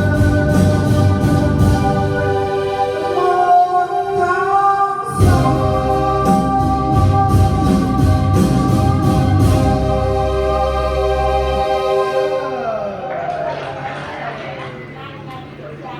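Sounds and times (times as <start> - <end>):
organ-like keyboard chords: 0.0 - 15.7.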